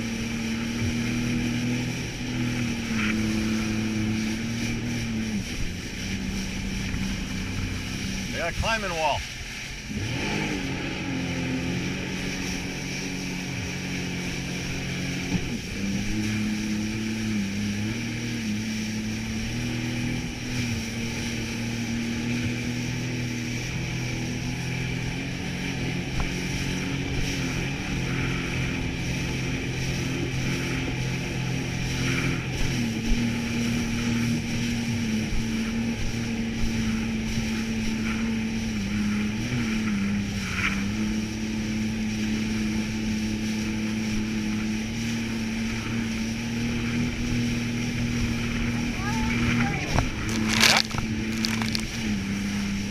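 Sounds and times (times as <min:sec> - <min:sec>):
jet ski engine droning: 0:00.0 - 0:52.9
rush of wind and water: 0:00.0 - 0:52.9.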